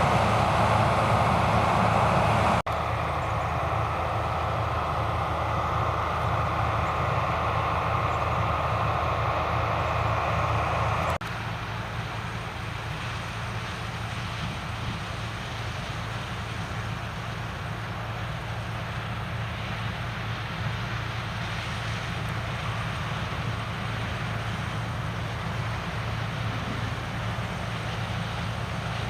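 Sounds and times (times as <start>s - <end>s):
farm machinery engines running: 0.0s - 29.0s
mid-pitched whine: 0.0s - 29.0s.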